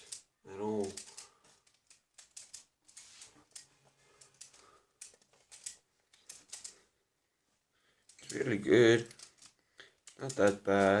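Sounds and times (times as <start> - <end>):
plastic puzzle pieces clicking: 0.0 - 6.8, 8.1 - 11.0.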